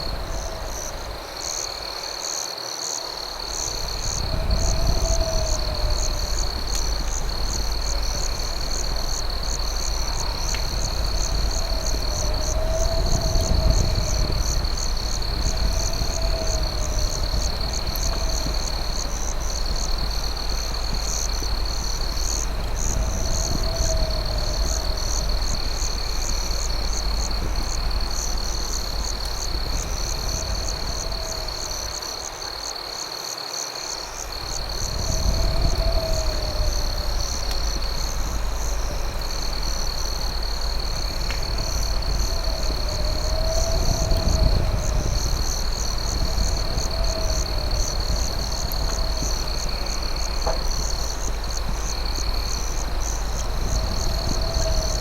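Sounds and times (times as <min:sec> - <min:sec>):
crickets trilling and chirping: 0:00.0 - 0:55.0
low rising and falling insect call: 0:00.0 - 0:55.0
steady low rumble: 0:03.3 - 0:32.5, 0:34.3 - 0:55.0.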